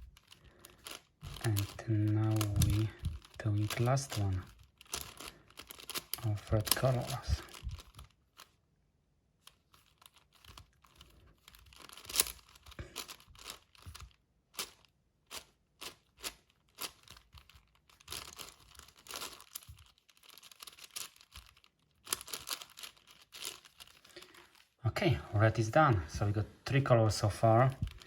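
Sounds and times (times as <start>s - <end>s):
puzzle cube clicking and clacking: 0.0s - 8.5s, 9.5s - 24.6s.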